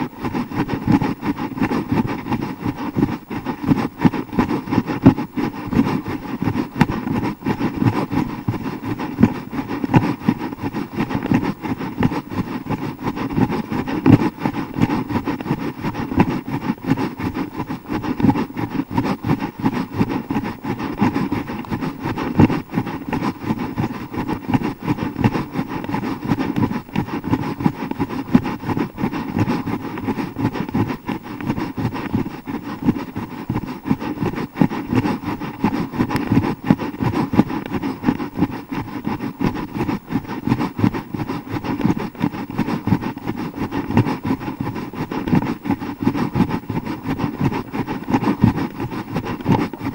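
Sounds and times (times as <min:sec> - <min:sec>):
fluttering wind on microphone: 0:00.0 - 0:49.9.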